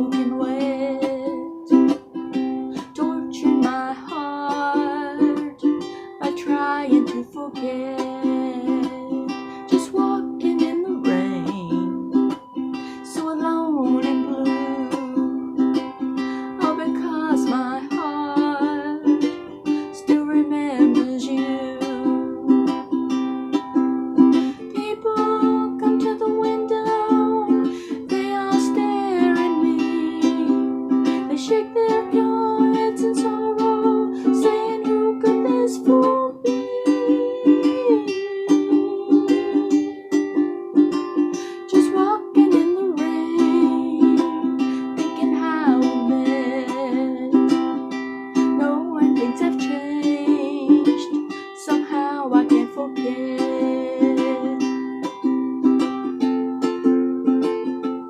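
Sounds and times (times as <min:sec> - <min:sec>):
ukulele strummed: 0:00.0 - 0:58.0.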